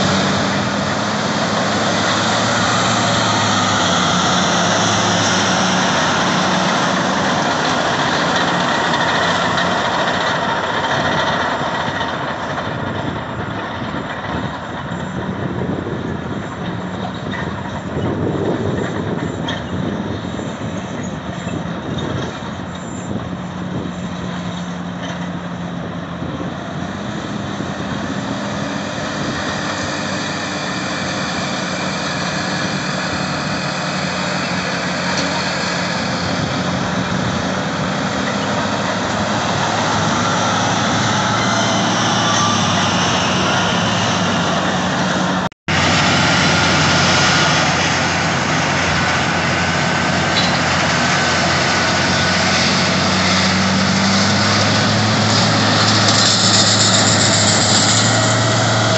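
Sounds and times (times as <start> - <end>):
heavy diesel engines running: 0.0 - 58.9.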